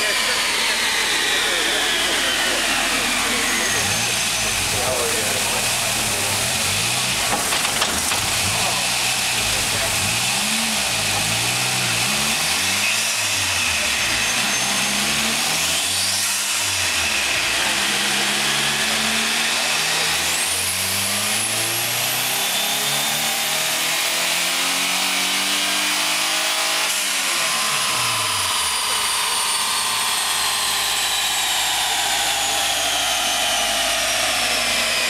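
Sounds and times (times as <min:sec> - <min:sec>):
car engine revving under load: 0:00.0 - 0:35.0
turbo whine: 0:00.0 - 0:35.0.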